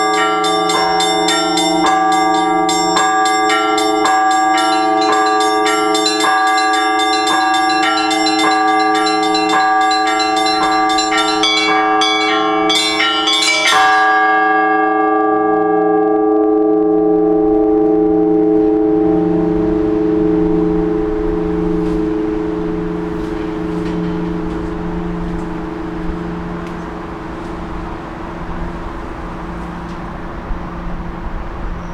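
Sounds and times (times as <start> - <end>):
small church bells struck rhythmically: 0.0 - 16.4, 17.0 - 31.8
large bells humming: 0.0 - 31.9.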